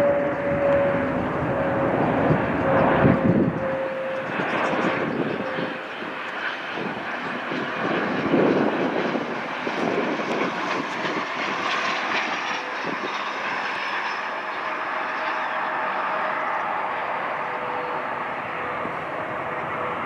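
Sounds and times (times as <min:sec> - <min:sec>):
jet airliner engines passing: 0:00.0 - 0:20.0.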